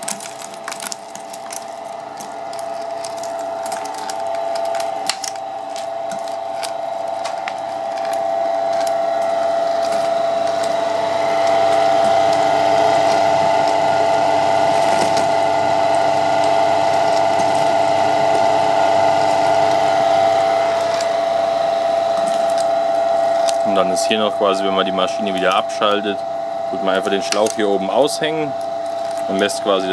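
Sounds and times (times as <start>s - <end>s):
ice machine whining hum: 0.0s - 29.9s.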